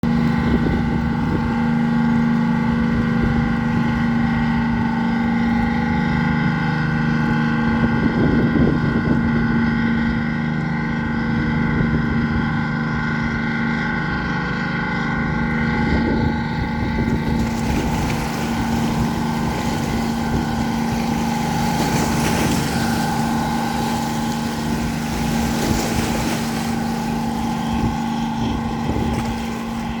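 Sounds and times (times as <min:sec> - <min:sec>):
boat engine droning: 0:00.0 - 0:30.0
rushing wind and water: 0:00.0 - 0:30.0.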